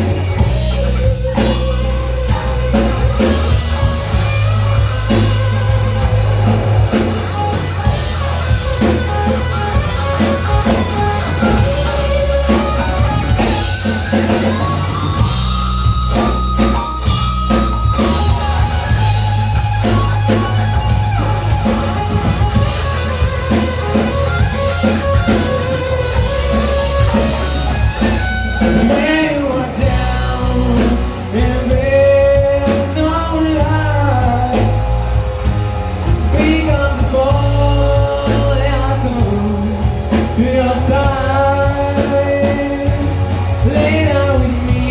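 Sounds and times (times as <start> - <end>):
lead guitar with bent notes: 0.0 - 44.9
rock band playing: 0.0 - 44.9.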